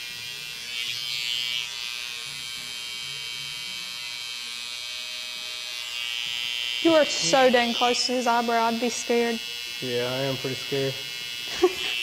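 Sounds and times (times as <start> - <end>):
hair trimmer buzzing: 0.0 - 12.0.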